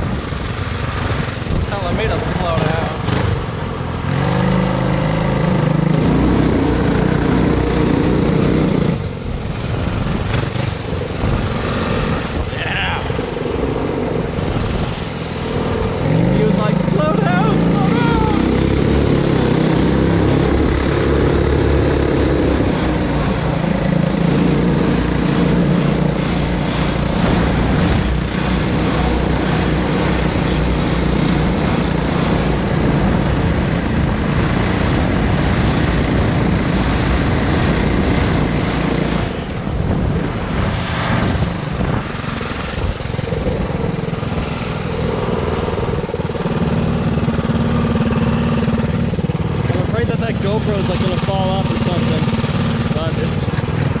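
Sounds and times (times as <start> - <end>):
go-kart engines running hard: 0.0 - 54.0.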